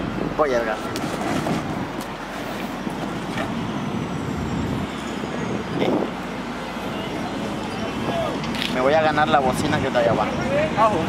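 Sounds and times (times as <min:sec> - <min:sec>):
road traffic passing cars: 0:00.0 - 0:11.0.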